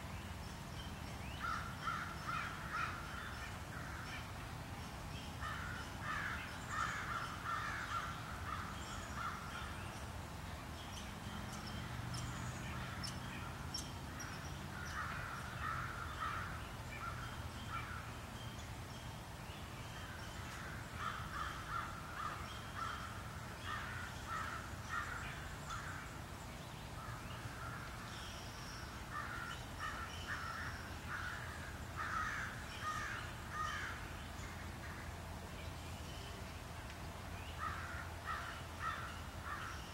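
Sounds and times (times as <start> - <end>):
birds calling: 0.2 - 36.6, 37.4 - 39.9.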